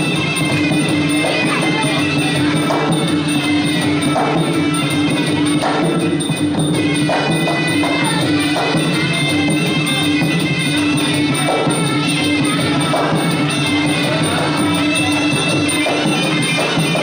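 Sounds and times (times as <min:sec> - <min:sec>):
drum strikes: 0:00.0 - 0:17.0.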